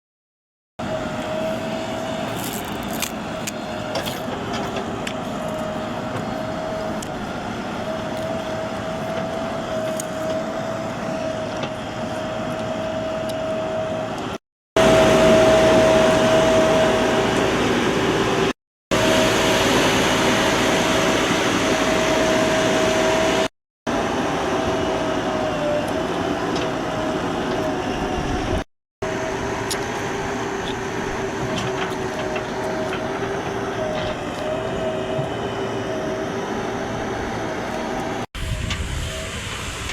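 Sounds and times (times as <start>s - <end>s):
backhoe diesel engine running: 0.8s - 39.9s
constant whine: 0.8s - 39.9s.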